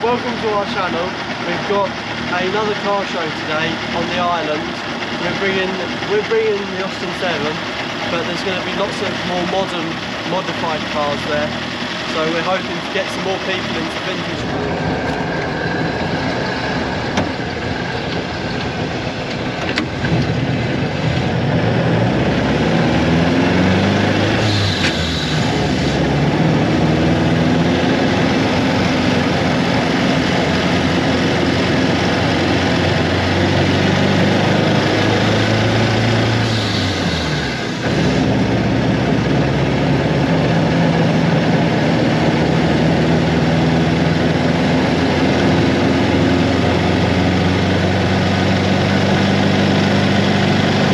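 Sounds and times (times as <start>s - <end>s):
small car engine running: 0.0s - 50.9s.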